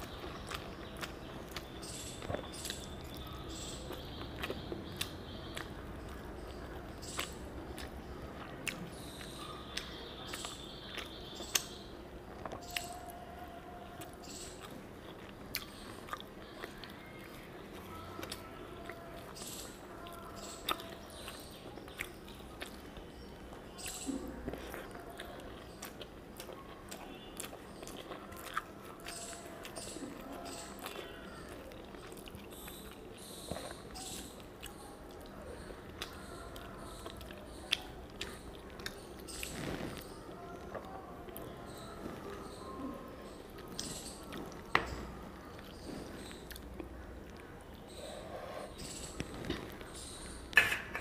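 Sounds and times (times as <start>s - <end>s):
person chewing with wet clicks: 0.0s - 48.0s.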